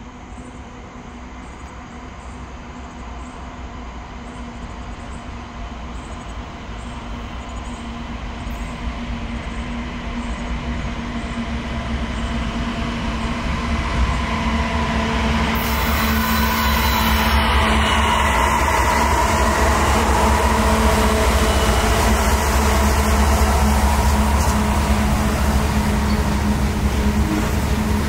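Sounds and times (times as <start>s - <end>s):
diesel locomotive engines running: 0.0s - 28.0s
train wheels on rails: 0.0s - 28.0s.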